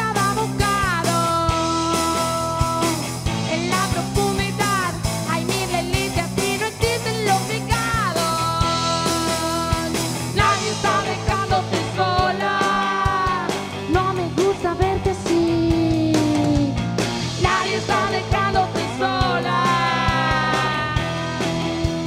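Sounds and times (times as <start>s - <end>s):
woman singing: 0.0s - 16.7s, 17.4s - 21.6s
drum kit: 0.0s - 22.0s
electric bass: 0.0s - 22.0s
electric guitar: 0.0s - 22.0s.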